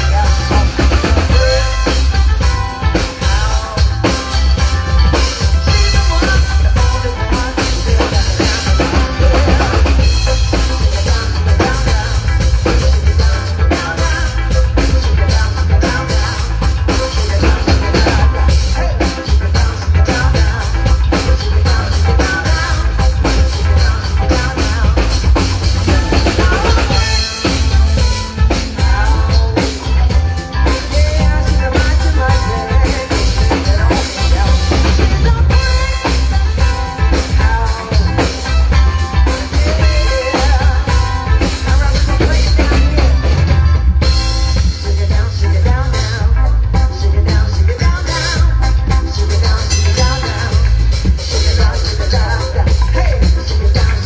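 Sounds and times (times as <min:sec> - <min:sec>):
band playing: 0:00.0 - 0:54.0
drum kit beating: 0:00.0 - 0:54.0
heavy bass: 0:00.0 - 0:54.0.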